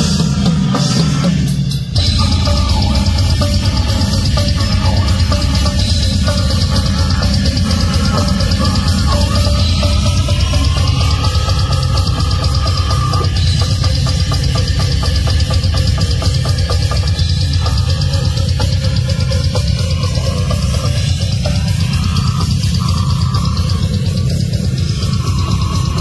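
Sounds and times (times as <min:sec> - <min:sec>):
fast drum strokes: 0:00.0 - 0:26.0
heavy metal band playing: 0:00.0 - 0:26.0.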